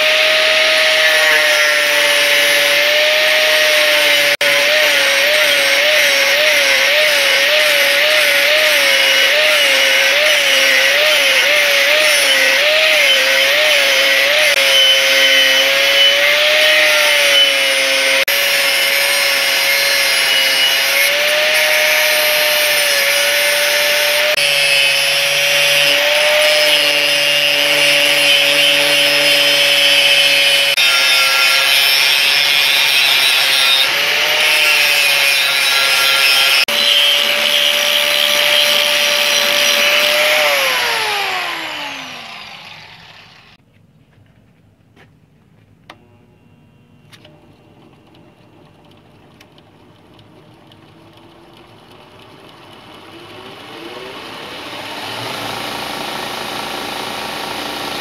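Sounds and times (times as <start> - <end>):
angle grinder cutting steel: 0.0 - 43.6, 50.4 - 58.0.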